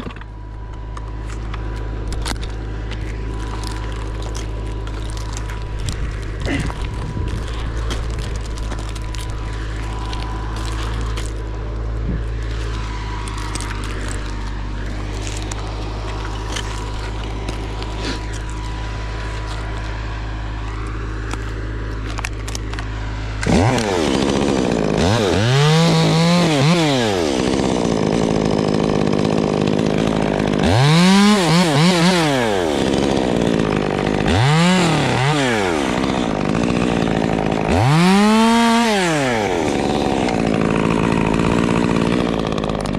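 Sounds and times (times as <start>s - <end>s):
chainsaw cutting wood: 0.0s - 42.9s
chainsaw idling and revving: 0.0s - 42.9s.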